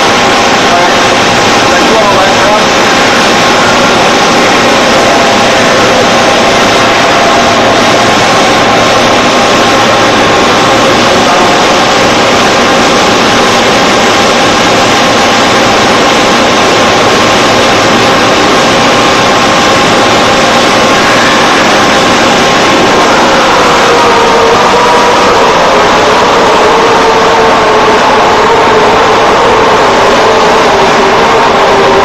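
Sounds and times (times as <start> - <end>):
boring mill running: 0.0 - 32.0.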